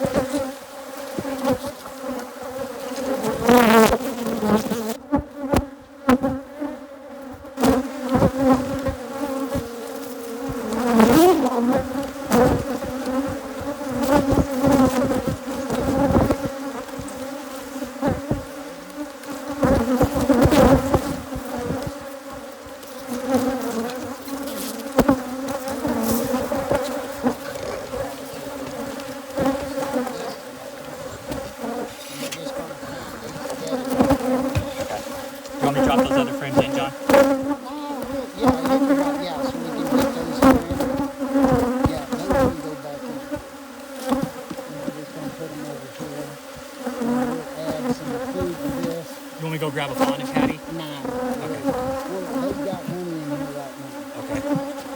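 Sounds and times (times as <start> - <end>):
bees buzzing: 0.0 - 54.9.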